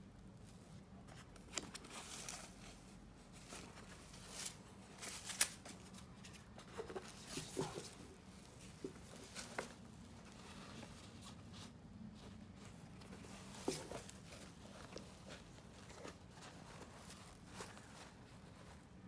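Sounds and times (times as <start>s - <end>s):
fabric rustling: 0.4s - 19.0s.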